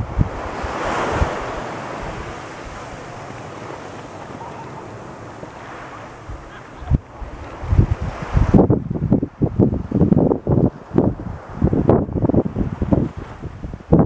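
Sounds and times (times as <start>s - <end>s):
ocean wave wash: 0.0s - 14.0s
wind buffeting microphone: 0.0s - 14.0s.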